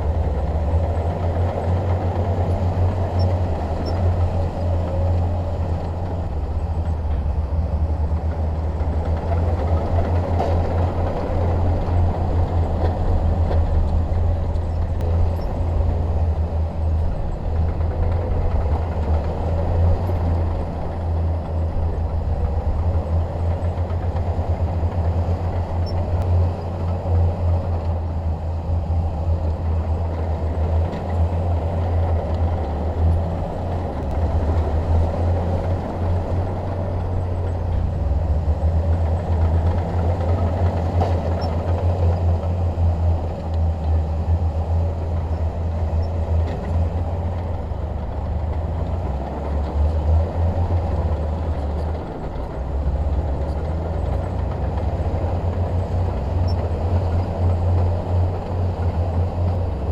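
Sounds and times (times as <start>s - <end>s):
bulldozer diesel engine rumbling: 0.0s - 59.9s.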